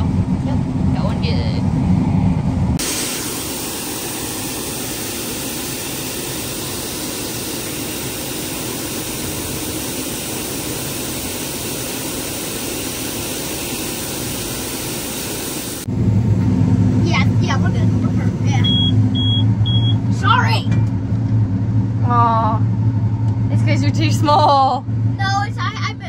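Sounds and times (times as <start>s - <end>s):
combine harvester roaring: 0.0s - 26.0s.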